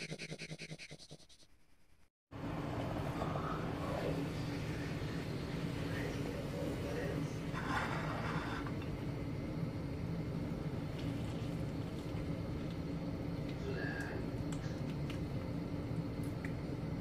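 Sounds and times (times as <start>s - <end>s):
range hood fan humming: 2.3s - 17.0s.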